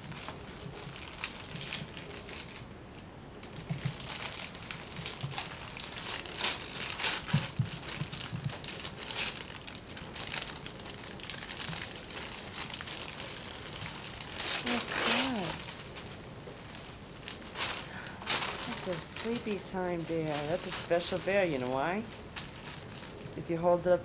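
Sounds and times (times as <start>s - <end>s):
wrapping paper crumpling and tearing: 0.0s - 23.7s.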